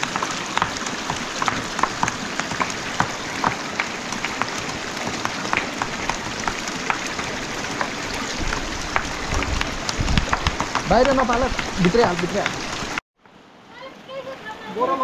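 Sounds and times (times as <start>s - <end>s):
river water running over stones: 0.0s - 15.0s.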